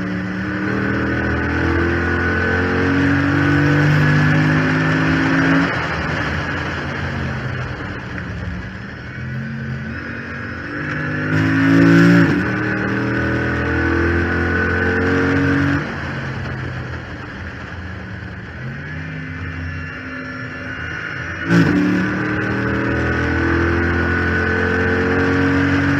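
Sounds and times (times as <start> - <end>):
car engine accelerating hard: 0.0 - 25.9
steady whine: 0.0 - 25.9.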